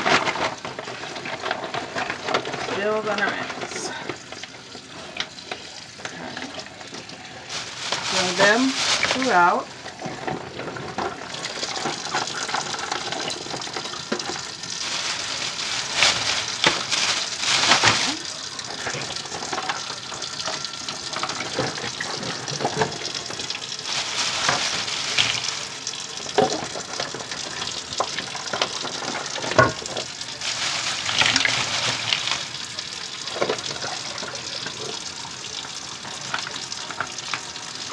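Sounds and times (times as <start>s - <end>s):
kitchen tap running: 0.0s - 37.9s.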